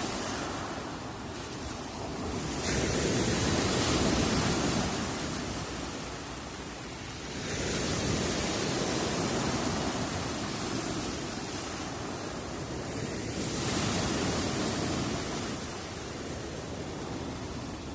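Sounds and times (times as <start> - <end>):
waves breaking on shore: 0.0 - 17.9.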